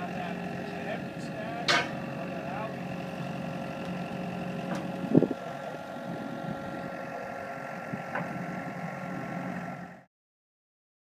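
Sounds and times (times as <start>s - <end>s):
loader engine idling: 0.0s - 10.1s.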